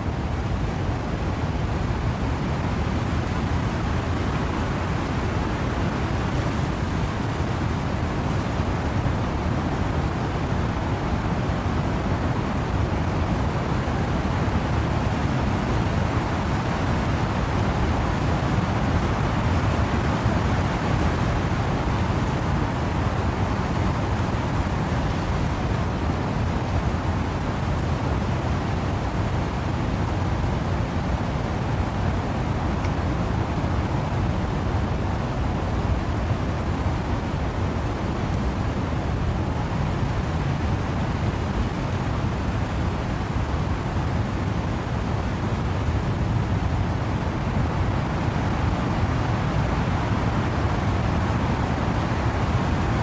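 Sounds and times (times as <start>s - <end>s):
steady rain: 0.0s - 53.0s
wind blowing through trees: 0.0s - 53.0s.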